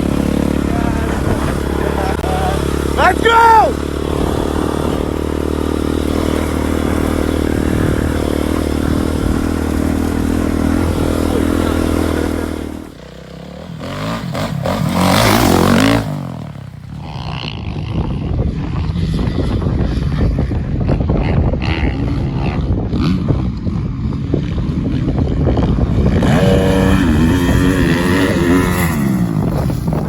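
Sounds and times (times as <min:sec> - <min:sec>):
dirt bike engine revving: 0:00.0 - 0:30.0
dirt bike engines running: 0:00.0 - 0:30.0.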